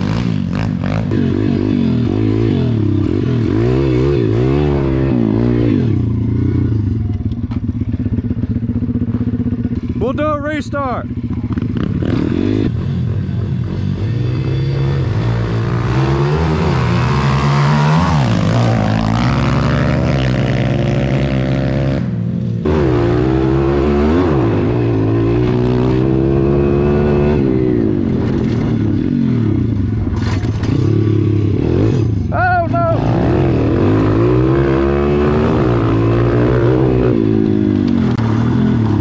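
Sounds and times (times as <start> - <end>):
pit bike engines revving: 0.0 - 39.0.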